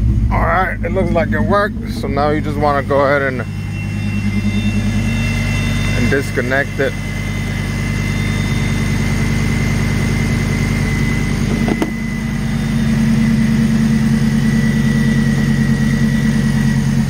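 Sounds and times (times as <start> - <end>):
car engine idling: 0.0 - 17.0
thin high whine: 0.3 - 17.0.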